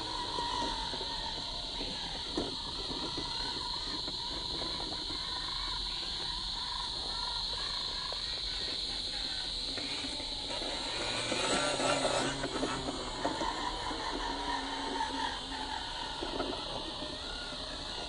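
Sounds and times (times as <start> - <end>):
high-pitched insect chirring: 0.0 - 18.0
toy car tyres crunching on rock: 0.0 - 18.0.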